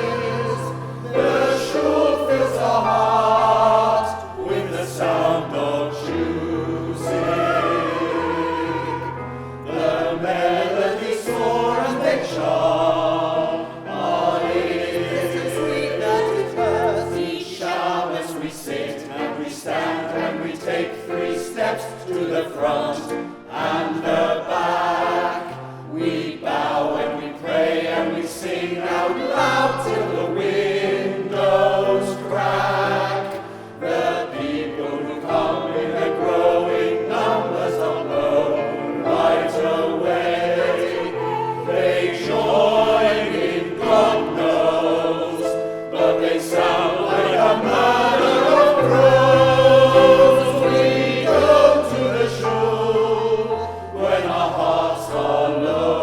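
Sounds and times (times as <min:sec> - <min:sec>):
choir singing a show tune: 0:00.0 - 0:56.0.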